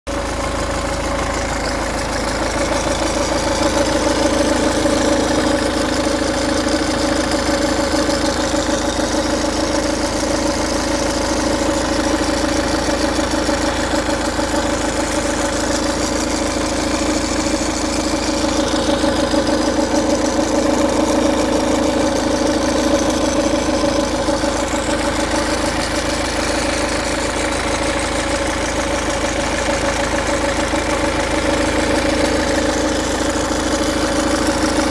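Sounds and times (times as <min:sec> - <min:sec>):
diesel engine idling with rattle: 0:00.1 - 0:34.9.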